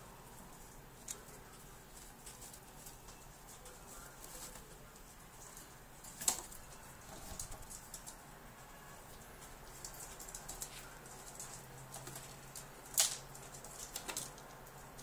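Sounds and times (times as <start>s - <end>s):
chipmunk scratching and rustling: 0.0s - 15.0s.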